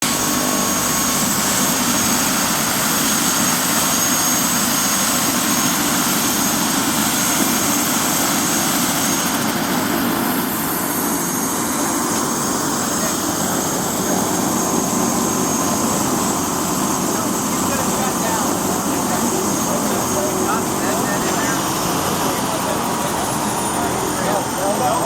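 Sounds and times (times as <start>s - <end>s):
helicopter engine with whine: 0.0s - 25.0s.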